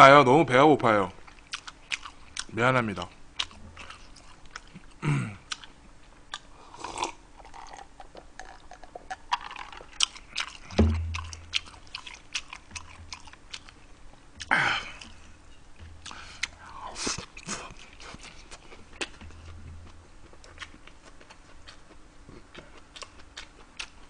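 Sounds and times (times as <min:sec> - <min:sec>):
chewing and lip-smacking: 0:01.2 - 0:02.5, 0:03.4 - 0:15.3, 0:16.0 - 0:24.0.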